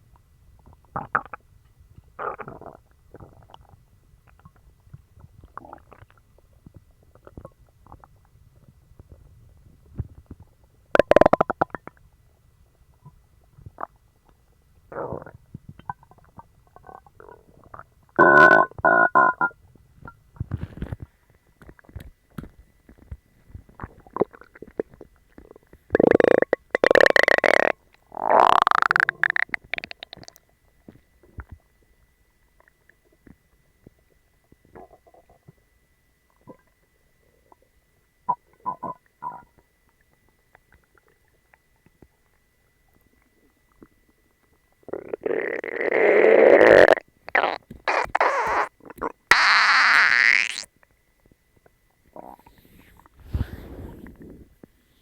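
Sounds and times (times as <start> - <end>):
stomach gurgles and pops: 0.0 - 31.9, 32.6 - 54.8
stomach growling: 0.6 - 31.8, 32.6 - 50.9, 51.6 - 54.8.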